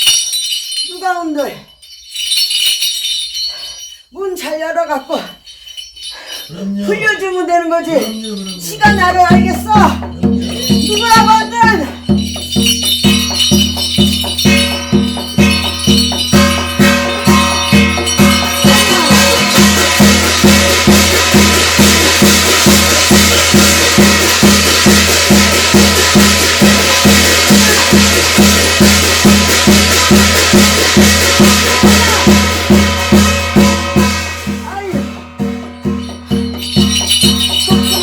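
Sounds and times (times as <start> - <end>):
shaken bells jingling: 0.0 - 38.0
drum beaten steadily: 6.5 - 38.0.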